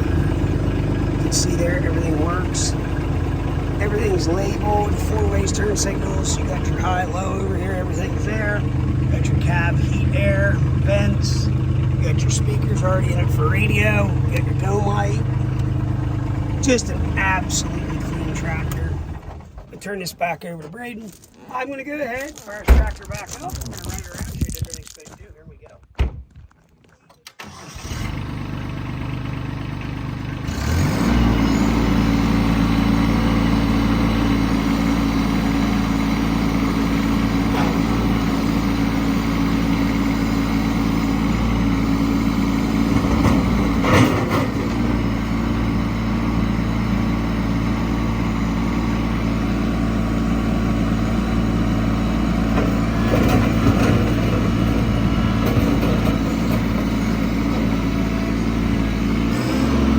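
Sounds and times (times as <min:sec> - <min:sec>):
diesel tractor engine idling: 0:00.0 - 0:25.3, 0:27.3 - 0:59.9.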